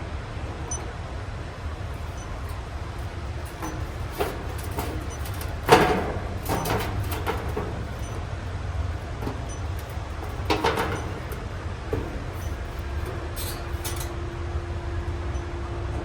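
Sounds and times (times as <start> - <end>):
steady low hum: 0.0 - 16.0
knocks and clatters of handling: 1.5 - 14.5.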